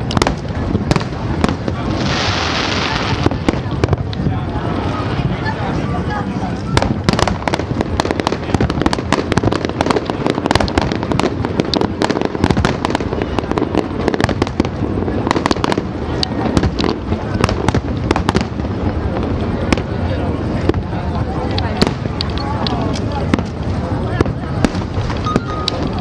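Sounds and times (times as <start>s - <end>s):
fireworks cracks and bangs: 0.0s - 26.0s.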